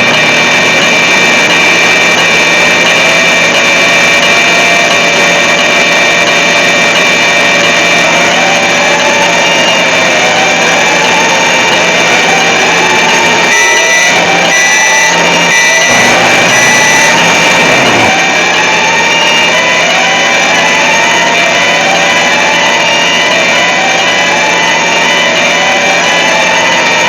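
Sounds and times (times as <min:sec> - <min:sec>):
distorted alarm noise: 0:00.0 - 0:27.0
piercing steady tones: 0:00.0 - 0:27.0.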